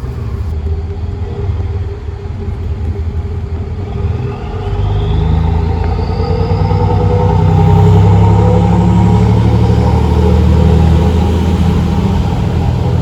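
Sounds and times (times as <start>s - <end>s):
faint whine rising in pitch: 0.0s - 13.0s
motor vehicle running: 0.0s - 13.0s.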